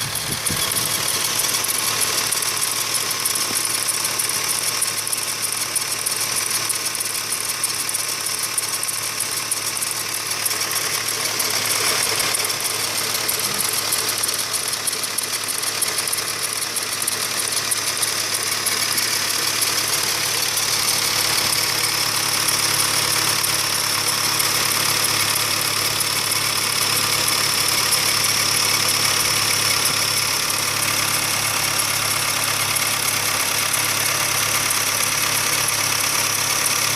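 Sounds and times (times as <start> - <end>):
car engine idling: 0.0 - 36.9
engine ticking rattle: 0.0 - 36.9.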